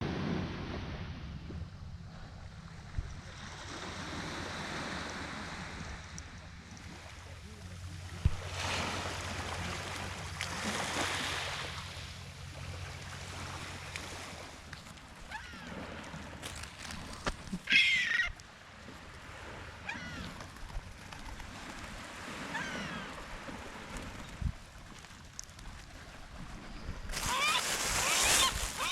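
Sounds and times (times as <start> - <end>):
waves washing onto shore: 0.0 - 28.9.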